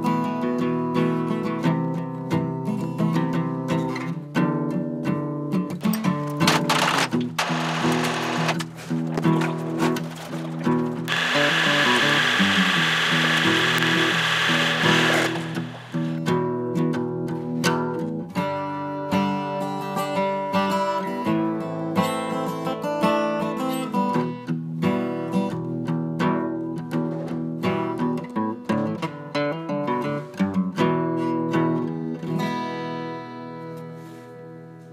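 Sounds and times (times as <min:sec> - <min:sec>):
acoustic guitar music: 0:00.0 - 0:34.6.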